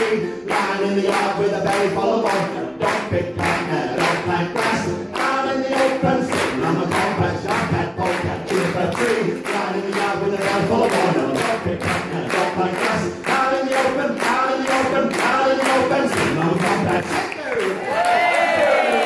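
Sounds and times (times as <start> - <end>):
two men singing: 0.0 - 17.4.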